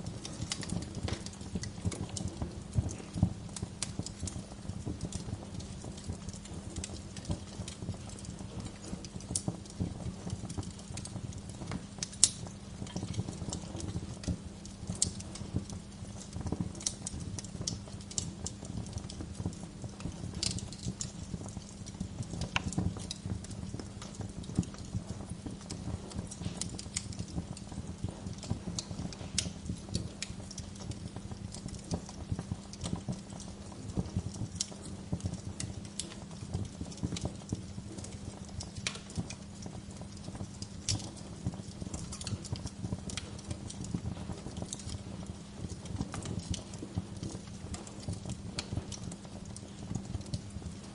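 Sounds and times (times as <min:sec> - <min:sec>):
bonfire crackling: 0:00.0 - 0:50.9
low rumble of flames: 0:00.0 - 0:50.9.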